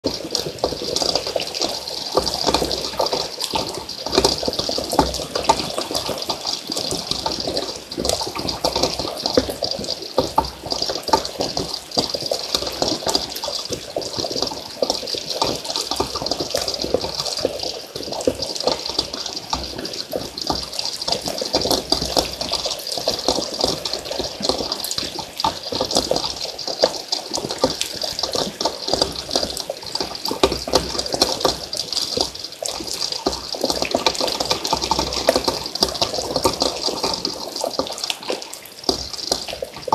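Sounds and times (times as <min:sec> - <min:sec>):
water rushing and splashing: 0:00.0 - 0:39.9.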